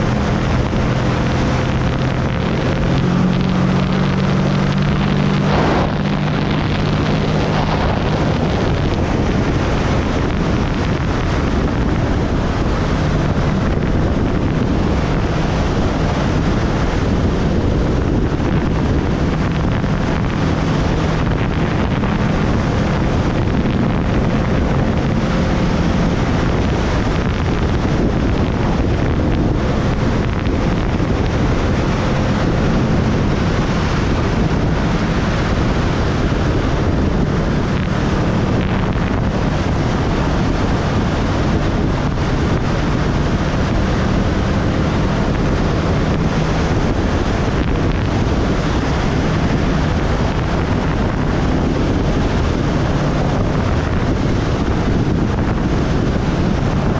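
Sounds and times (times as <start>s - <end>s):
motorcycle engine drone: 0.0s - 56.9s
wind rushing over microphone: 0.0s - 56.9s.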